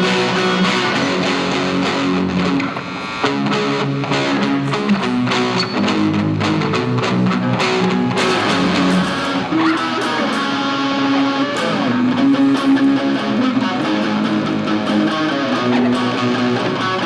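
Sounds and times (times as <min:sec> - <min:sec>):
guitar chords: 0:00.0 - 0:17.0
plucked guitar melody: 0:00.0 - 0:17.0.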